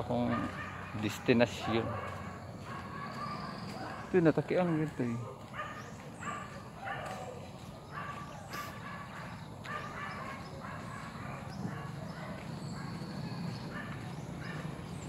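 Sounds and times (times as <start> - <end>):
animal calling: 0.2 - 15.0.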